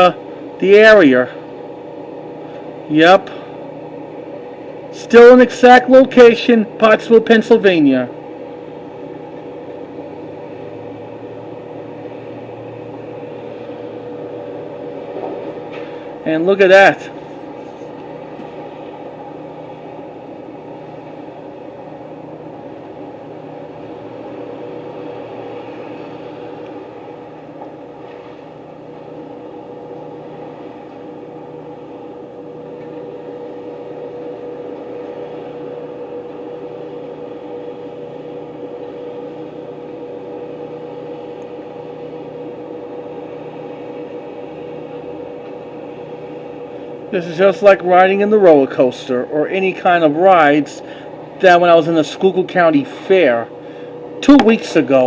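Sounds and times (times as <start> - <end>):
steady engine hum: 0.0 - 55.0.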